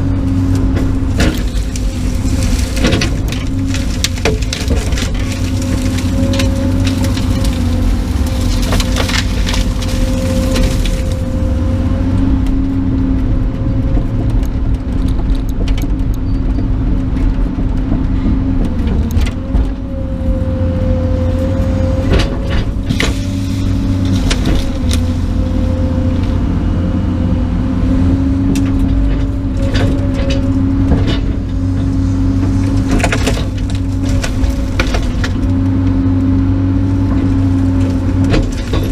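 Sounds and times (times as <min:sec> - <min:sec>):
branches cracking and snapping: 0:00.0 - 0:16.2, 0:16.8 - 0:38.9
excavator diesel engine: 0:00.0 - 0:38.9.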